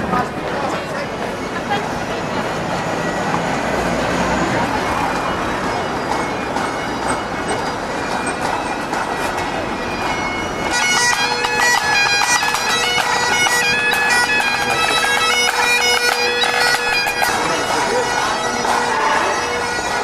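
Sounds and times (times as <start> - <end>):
bagpipes playing: 0.0 - 20.0
street noise hum: 0.0 - 20.0.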